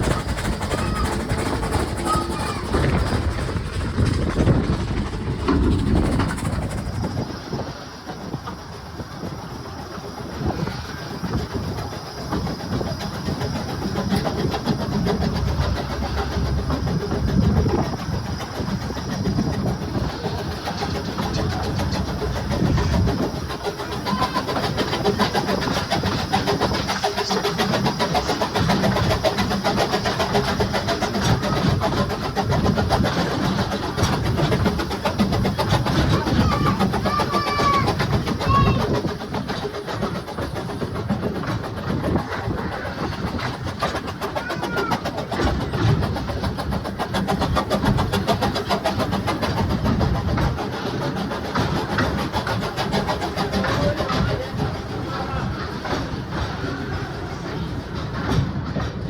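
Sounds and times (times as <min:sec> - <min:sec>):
train wheels clattering on track: 0:00.0 - 0:59.0.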